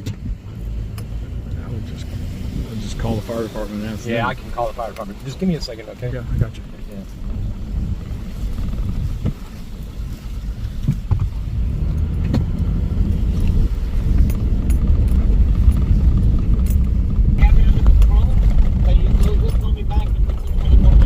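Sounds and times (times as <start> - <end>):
car rumble: 0.0 - 21.0.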